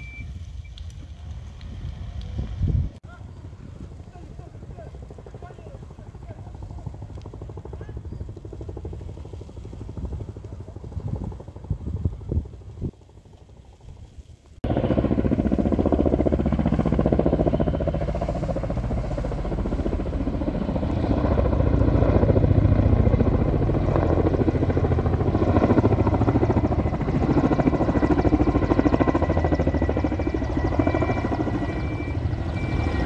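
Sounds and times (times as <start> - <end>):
helicopter rotor chop: 3.1 - 33.0.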